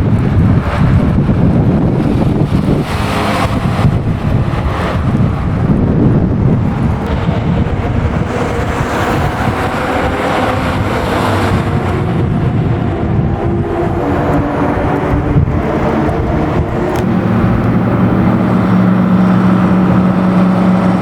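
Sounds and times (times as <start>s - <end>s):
car engine running: 0.0s - 21.0s
wind buffeting the microphone: 0.0s - 21.0s.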